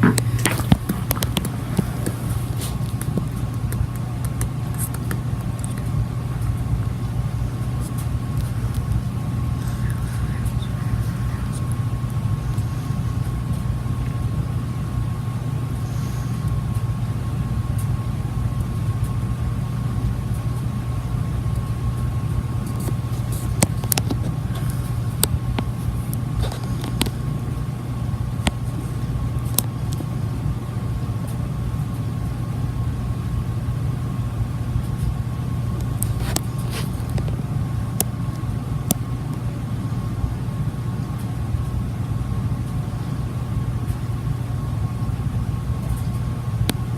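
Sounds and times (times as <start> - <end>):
ceiling fan humming: 0.0 - 46.9.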